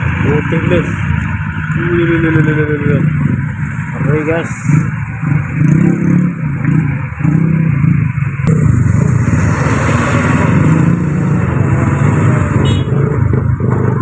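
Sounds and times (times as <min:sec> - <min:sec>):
road noise: 0:00.0 - 0:14.0
truck diesel engine under load: 0:00.0 - 0:14.0.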